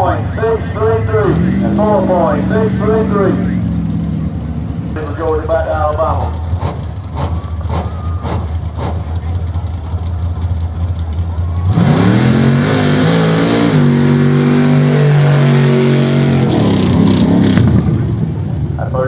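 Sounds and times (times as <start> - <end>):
vehicle engine revving: 0.0 - 18.8.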